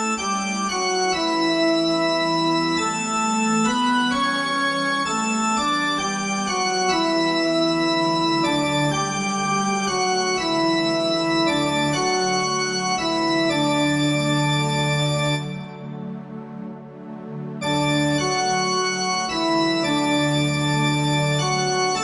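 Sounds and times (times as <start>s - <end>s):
organ-like keyboard chords: 0.0s - 22.0s.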